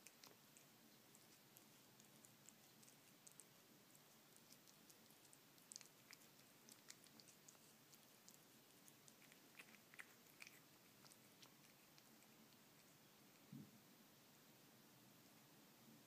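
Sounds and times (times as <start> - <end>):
cat chewing wet food: 0.0 - 13.6.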